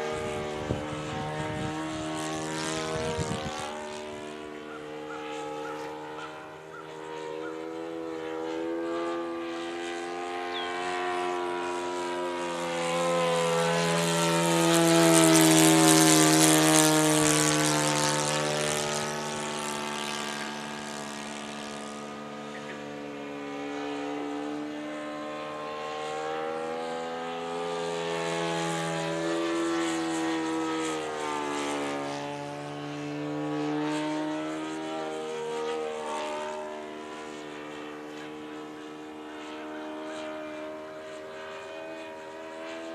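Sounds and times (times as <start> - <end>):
model airplane engine flying past: 0.0 - 42.9.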